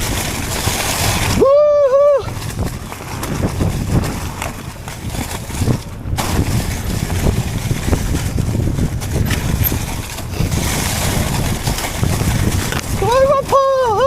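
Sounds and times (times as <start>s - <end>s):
bike rattling and knocking: 0.0s - 1.4s, 2.0s - 14.0s
wind rumbling on microphone: 0.0s - 14.0s.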